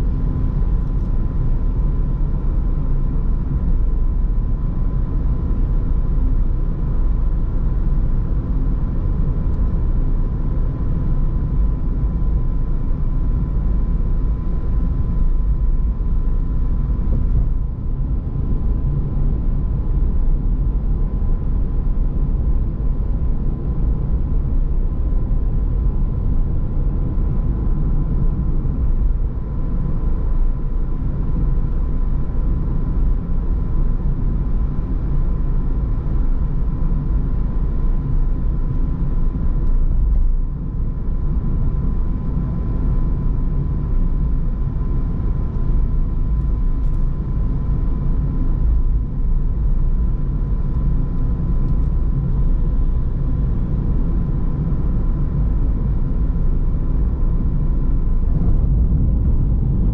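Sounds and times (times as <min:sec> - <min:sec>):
car tyres and engine rumble: 0:00.0 - 0:59.9.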